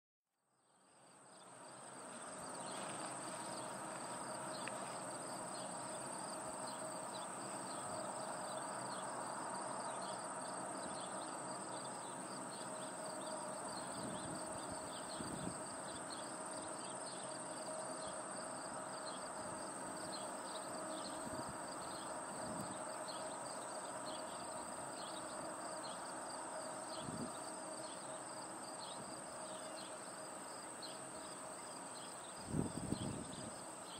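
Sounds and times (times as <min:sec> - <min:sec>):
insect chirps: 0:00.7 - 0:33.9
insect chorus trilling: 0:01.2 - 0:33.9.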